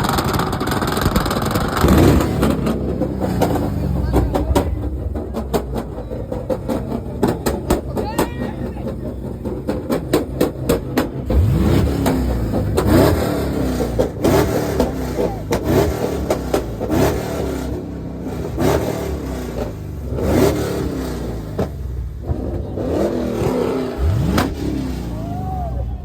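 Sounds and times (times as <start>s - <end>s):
car engine revving: 0.0s - 26.0s
exhaust cracks: 0.0s - 26.0s.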